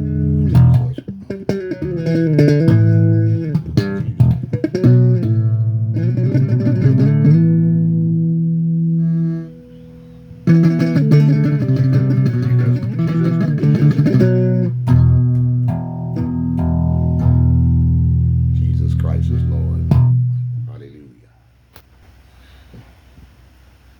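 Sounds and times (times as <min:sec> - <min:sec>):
electric bass guitar playing: 0:00.0 - 0:21.2.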